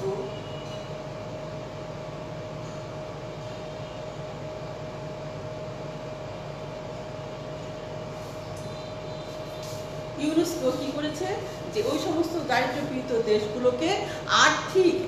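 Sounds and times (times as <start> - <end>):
mid-pitched whine: 0.0 - 15.0
steady background hum: 0.0 - 15.0.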